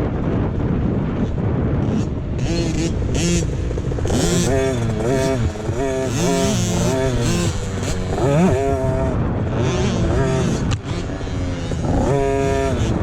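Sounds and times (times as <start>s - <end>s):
dirt bike engines revving: 1.8s - 13.0s.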